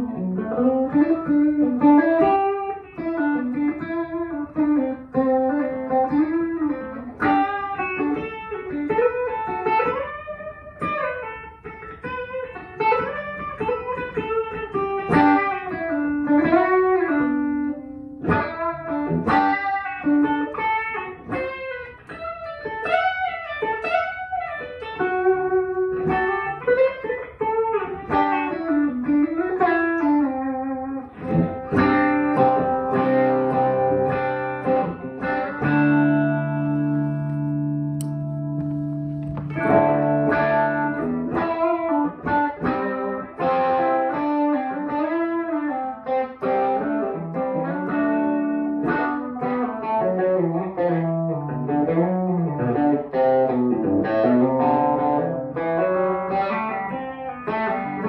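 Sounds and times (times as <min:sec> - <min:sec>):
electric guitar lead line: 0:00.0 - 0:58.0
guitar chord ringing: 0:00.0 - 0:58.0.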